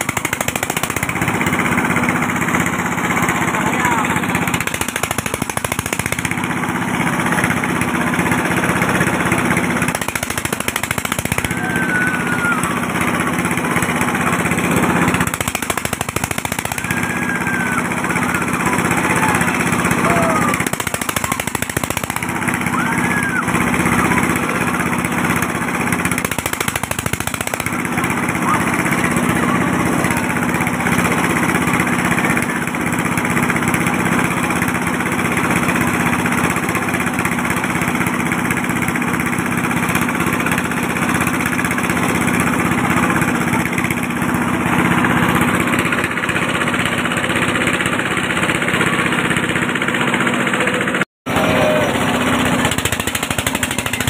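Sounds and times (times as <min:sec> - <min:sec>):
engine humming steadily: 0:00.0 - 0:54.0.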